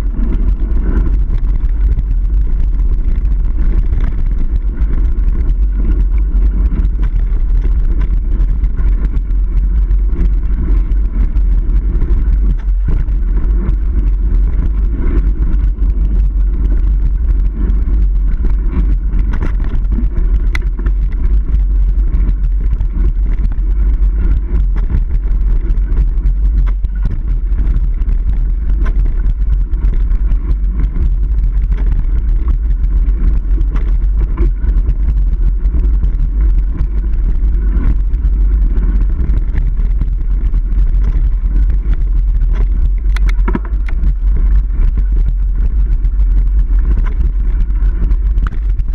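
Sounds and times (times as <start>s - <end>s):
bike clicks and rattles: 0.0s - 48.9s
bike tyres rumbling on dirt: 0.0s - 48.9s
wind buffeting microphone: 0.0s - 48.9s.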